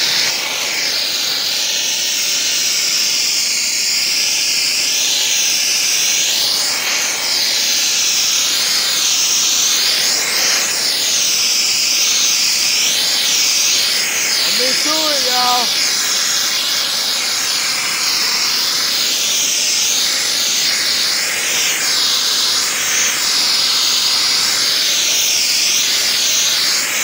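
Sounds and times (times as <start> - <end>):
pressure washer jet on concrete: 0.0 - 27.0.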